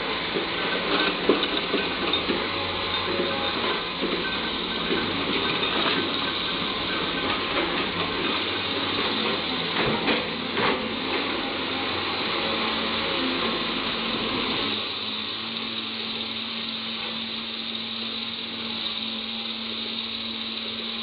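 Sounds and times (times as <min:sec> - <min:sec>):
excavator running under load: 0:00.0 - 0:21.0.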